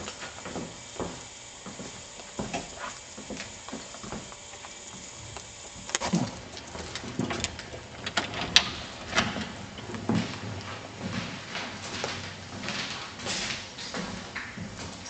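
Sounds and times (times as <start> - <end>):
soft footsteps: 0.0 - 8.0, 8.6 - 15.0
steady hiss: 0.0 - 15.0.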